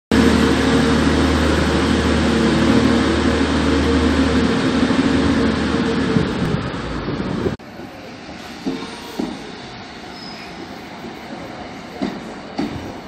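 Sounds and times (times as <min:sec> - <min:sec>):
train diesel engine drone: 0:00.1 - 0:13.0.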